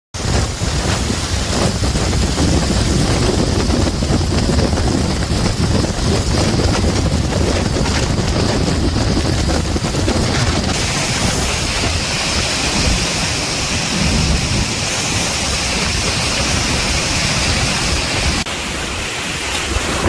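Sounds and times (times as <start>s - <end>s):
strong wind buffeting microphone: 0.1s - 20.0s.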